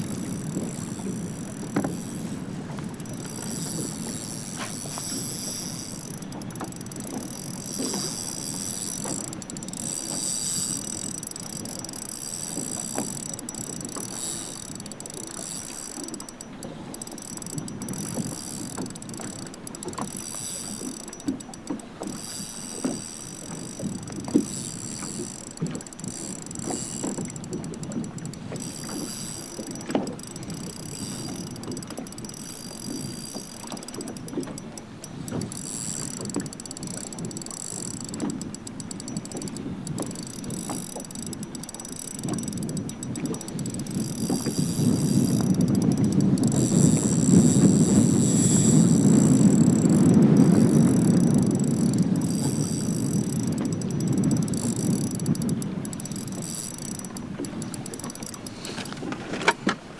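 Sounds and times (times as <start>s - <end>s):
wind and water wash: 0.0s - 59.9s.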